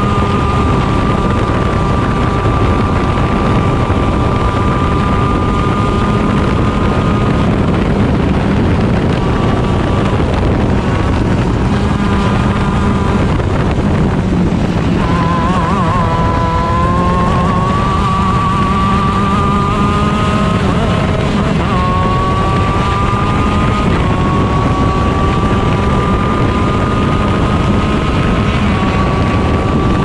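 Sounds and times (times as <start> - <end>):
kart engine running: 0.0 - 30.0
wind rumble on microphone: 0.0 - 30.0.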